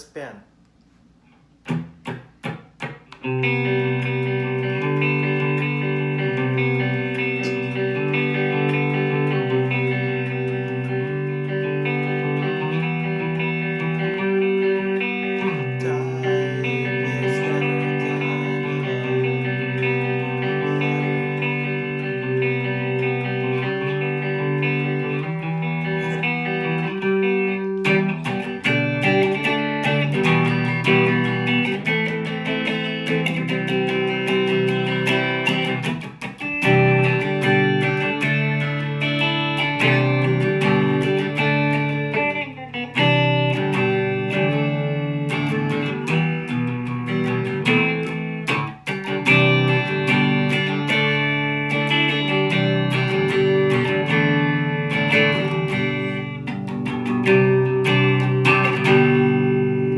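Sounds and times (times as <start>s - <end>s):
electric guitar through amp: 1.6s - 59.9s.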